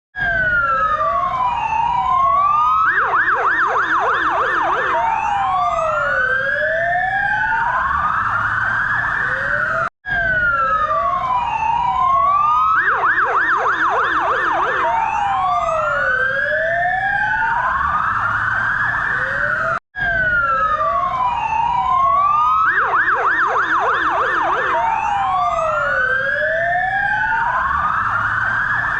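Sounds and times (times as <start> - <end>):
ambulance siren wail and yelp: 0.2 - 28.9.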